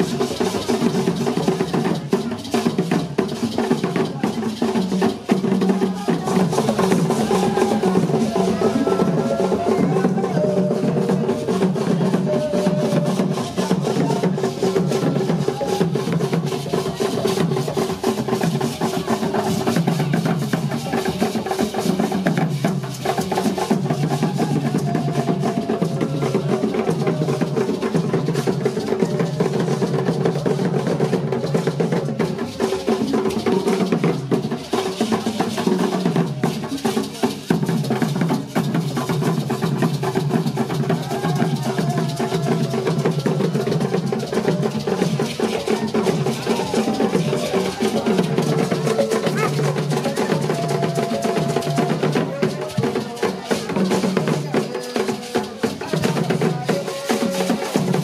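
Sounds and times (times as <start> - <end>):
rapid drum strokes: 0.0 - 58.0.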